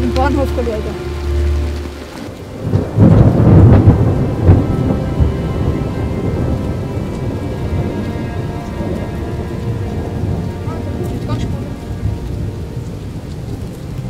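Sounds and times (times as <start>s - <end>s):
heavy rain: 0.0s - 14.0s
thunder rumble: 0.0s - 14.0s.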